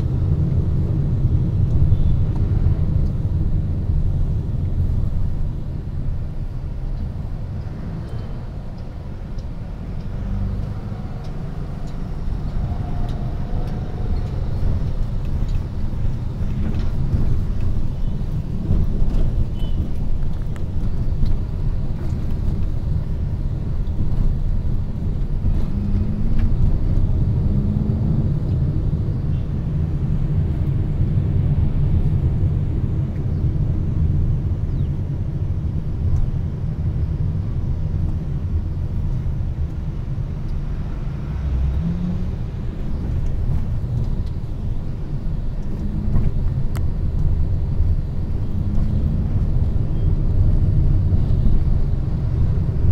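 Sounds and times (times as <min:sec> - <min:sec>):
vehicle engine and tyres rumbling: 0:00.0 - 0:52.9.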